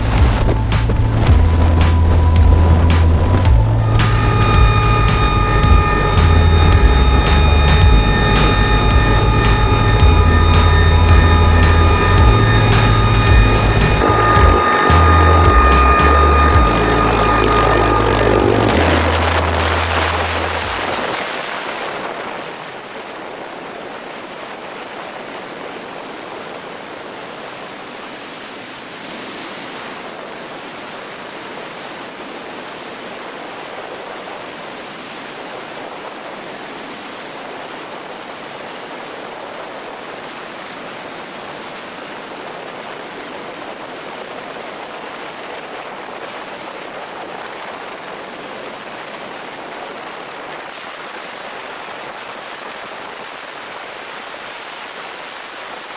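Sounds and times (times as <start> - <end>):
freefall wind roar: 0.0 - 55.9.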